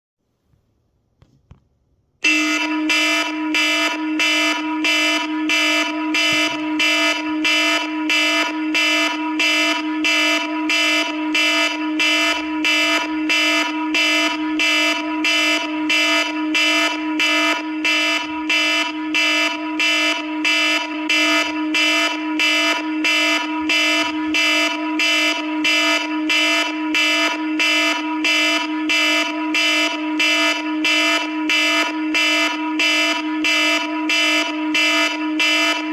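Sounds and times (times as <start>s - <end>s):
electronic phone alarm ringing: 2.3s - 35.9s.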